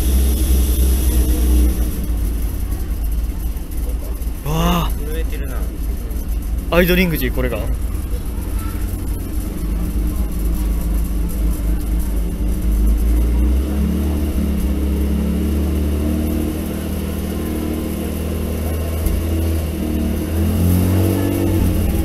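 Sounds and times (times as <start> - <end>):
car engine idling with echo: 0.0 - 22.0.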